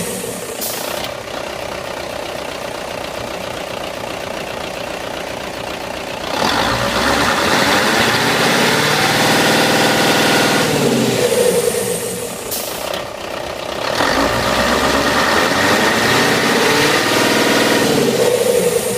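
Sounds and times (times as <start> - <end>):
diesel truck engine idling: 0.0 - 18.9.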